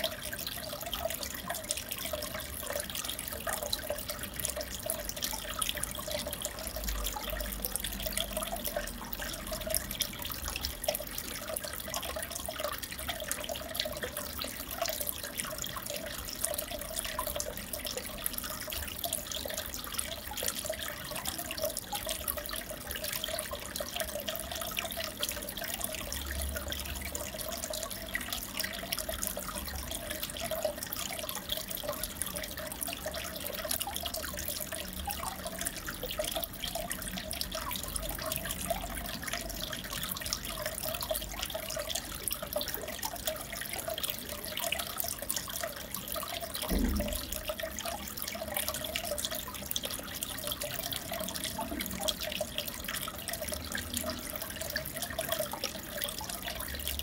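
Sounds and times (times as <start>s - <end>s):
aquarium water trickling and bubbling: 0.0s - 57.0s.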